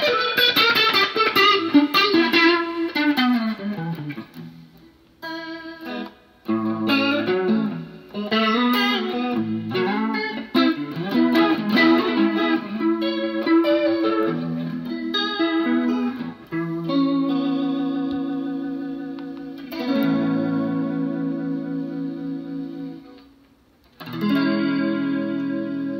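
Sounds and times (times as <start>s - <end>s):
electric guitar with rotary swirl: 0.0s - 25.9s.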